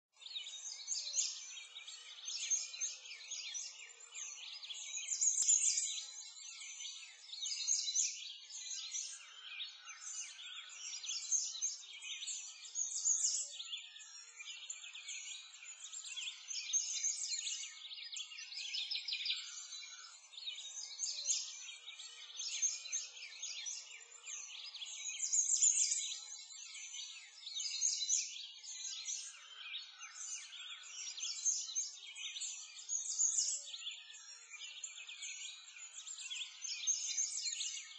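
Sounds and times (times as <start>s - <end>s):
birds chirping and singing: 0.2s - 37.9s.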